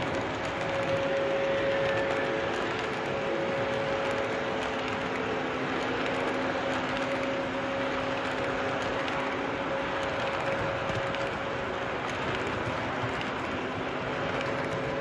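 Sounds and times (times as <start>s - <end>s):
model train wheels rumbling: 0.0s - 15.0s.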